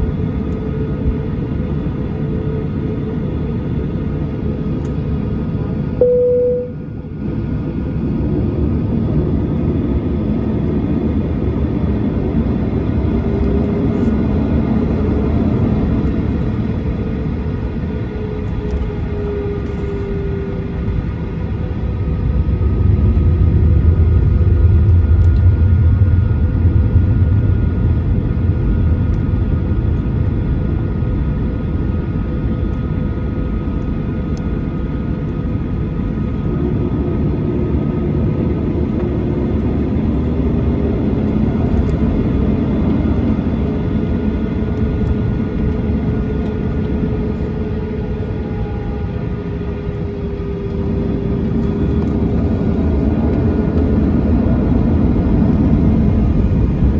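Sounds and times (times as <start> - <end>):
airplane cabin drone: 0.0 - 56.9
constant engine whine: 0.0 - 56.9.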